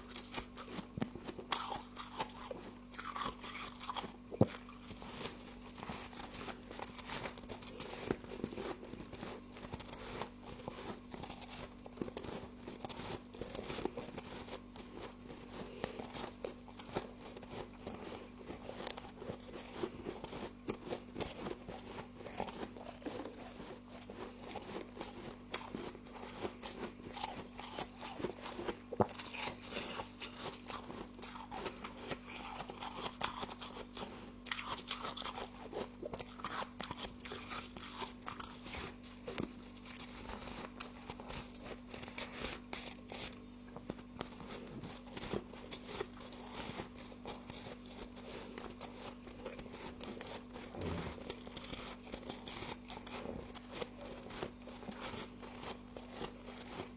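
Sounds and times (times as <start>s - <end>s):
crunching and chewing frost: 0.0s - 56.9s
steady low hum: 0.0s - 56.9s.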